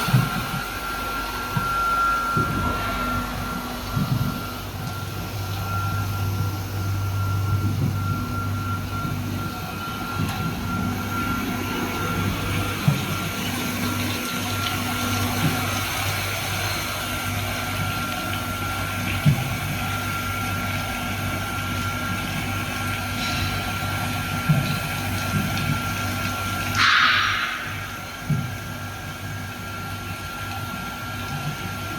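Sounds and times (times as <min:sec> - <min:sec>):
machine motor hum with whine: 0:00.0 - 0:31.9
water noise: 0:00.0 - 0:31.9.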